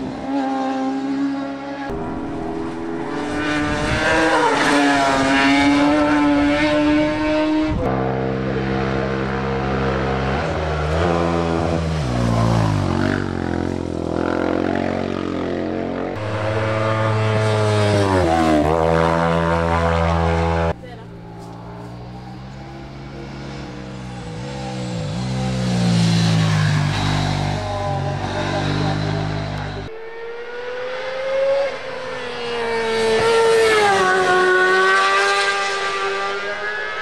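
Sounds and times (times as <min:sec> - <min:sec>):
racing engines revving high: 0:00.0 - 0:37.0.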